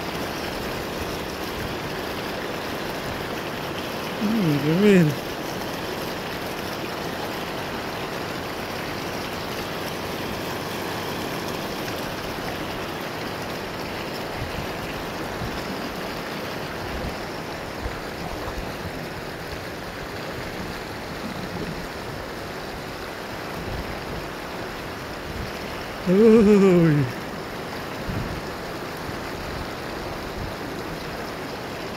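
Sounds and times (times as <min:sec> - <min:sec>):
river flowing over rocks: 0:00.0 - 0:31.9.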